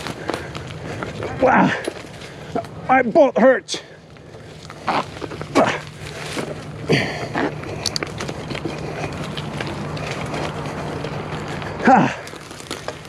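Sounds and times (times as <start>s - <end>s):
bicycle frame clicks and rattles: 0.0s - 2.8s, 4.2s - 13.0s
bicycle being ridden: 0.0s - 13.0s.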